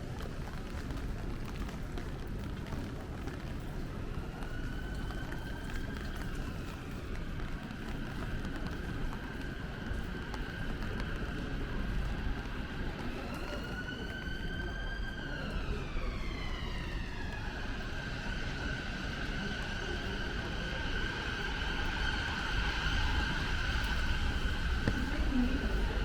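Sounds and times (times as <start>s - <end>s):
traffic: 0.0s - 26.0s
siren wailing: 4.0s - 26.0s.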